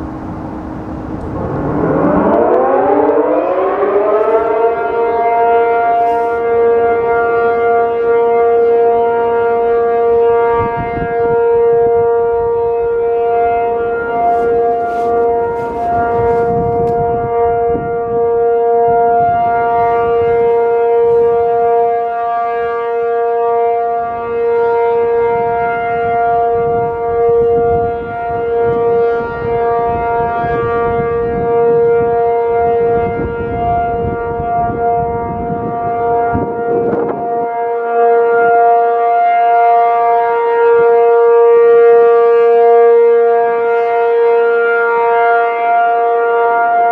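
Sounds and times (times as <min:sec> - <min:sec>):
steady warning siren: 0:00.0 - 0:46.9.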